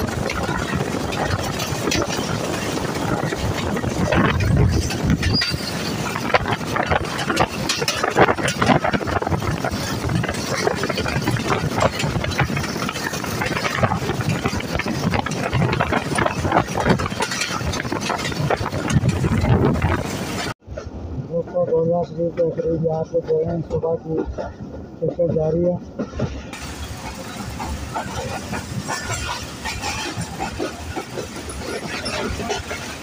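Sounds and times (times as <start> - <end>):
clatter and knocks of train wheels: 0.0 - 33.0
train wheels rumbling on track: 0.0 - 33.0.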